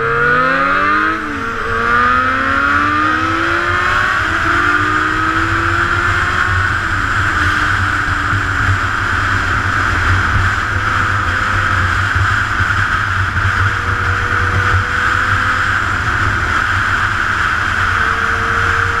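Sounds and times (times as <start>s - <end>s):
motorcycle engine cruising: 0.0s - 19.0s
wind rushing over camera: 0.0s - 19.0s.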